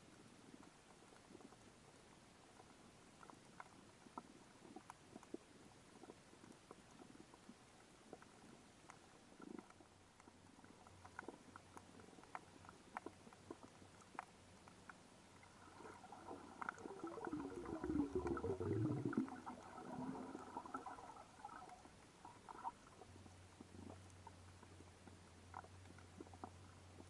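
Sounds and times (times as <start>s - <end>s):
underwater clicks and crackles: 0.0s - 27.0s.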